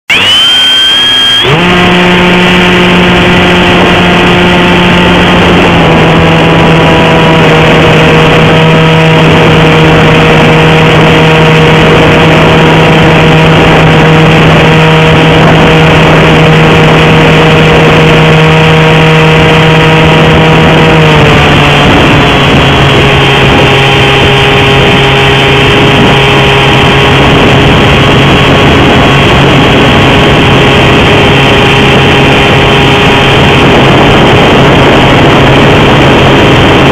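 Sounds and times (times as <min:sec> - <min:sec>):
electric motor and propeller whine: 0:00.0 - 0:36.9.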